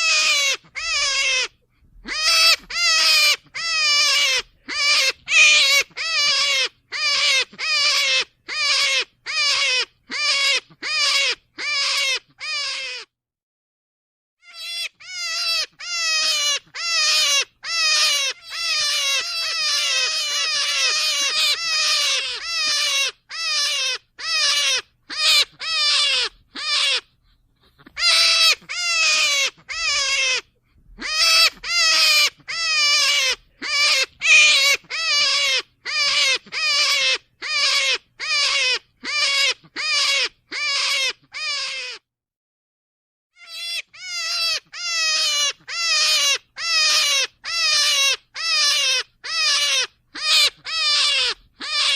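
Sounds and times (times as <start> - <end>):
rabbit squealing: 0.0 - 13.1, 14.4 - 42.1, 43.4 - 51.9.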